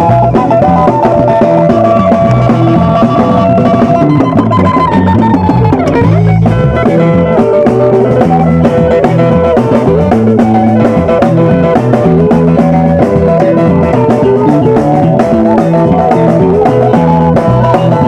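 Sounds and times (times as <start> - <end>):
band with guitar and drums: 0.0 - 18.0.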